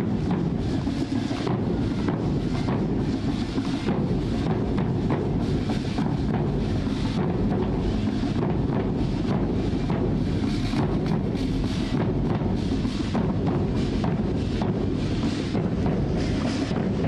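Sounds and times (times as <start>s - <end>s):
drums beating: 0.0s - 17.0s.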